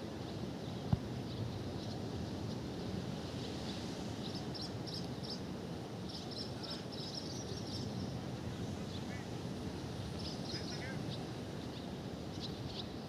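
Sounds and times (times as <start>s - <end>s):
sea and wind rushing: 0.0s - 13.0s.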